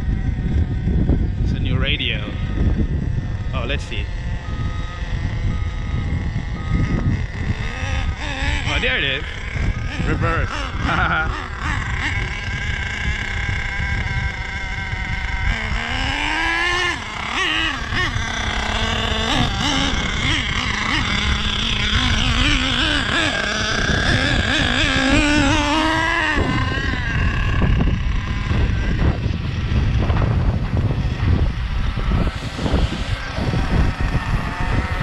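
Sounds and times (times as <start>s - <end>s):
toy truck engine revving: 0.0s - 35.0s.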